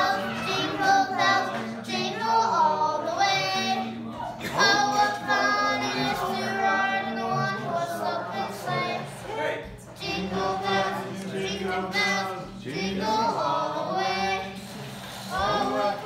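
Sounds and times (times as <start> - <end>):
girl singing: 0.0 - 9.3, 10.0 - 14.6, 15.3 - 16.0.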